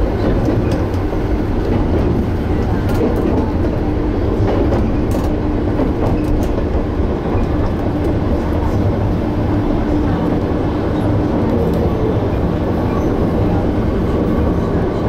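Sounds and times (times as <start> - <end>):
train hum: 0.0 - 15.0
train wheels rumbling on rail: 0.0 - 15.0.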